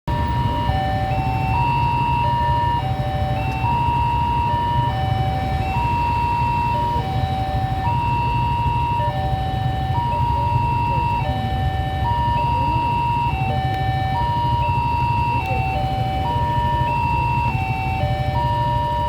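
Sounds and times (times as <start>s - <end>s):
level crossing warning siren: 0.1s - 19.0s.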